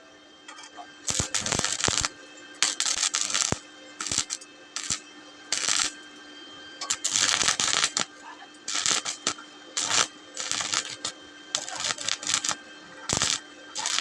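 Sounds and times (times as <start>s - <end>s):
steady low hum: 0.0s - 14.0s
welding arc crackling: 0.5s - 14.0s.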